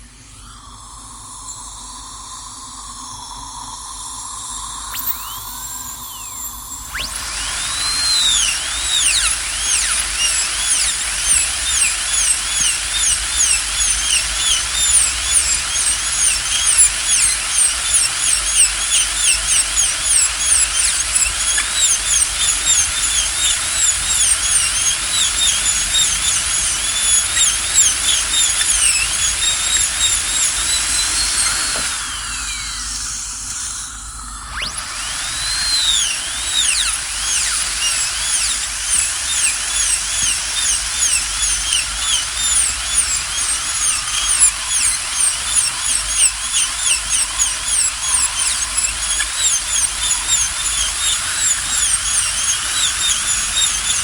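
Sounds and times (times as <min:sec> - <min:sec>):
dentist's drill whining: 0:00.0 - 0:54.0.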